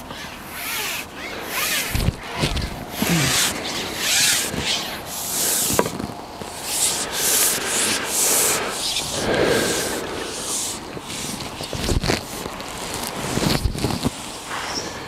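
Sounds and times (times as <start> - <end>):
rustling rubbing noise: 0.0 - 14.4.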